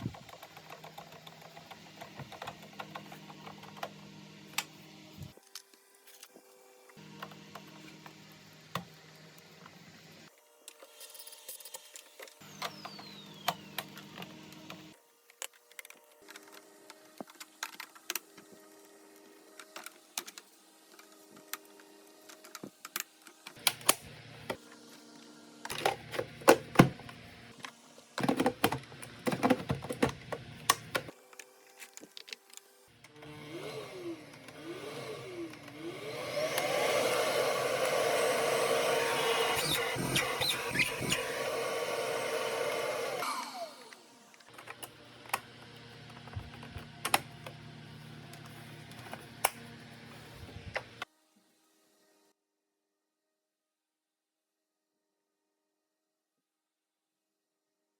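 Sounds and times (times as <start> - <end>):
vacuum cleaner motor whine: 0.0 - 15.1, 15.8 - 52.2.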